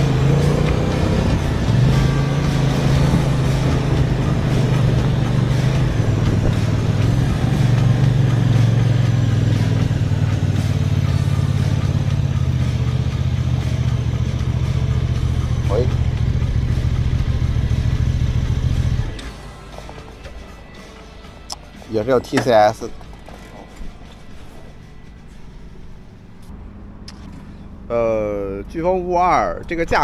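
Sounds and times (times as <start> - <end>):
motorcycle engine low hum: 0.0 - 30.0.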